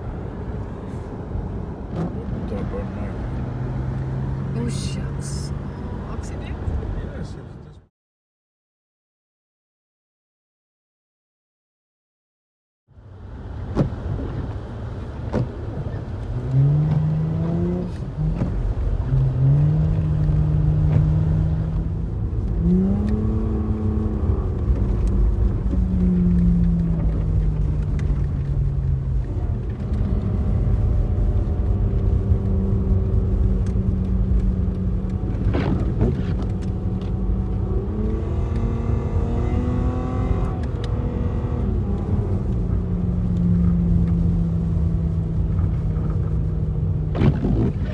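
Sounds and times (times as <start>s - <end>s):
low road rumble: 0.0s - 7.9s, 12.9s - 47.9s
car engine accelerating: 0.1s - 7.8s, 13.5s - 47.9s.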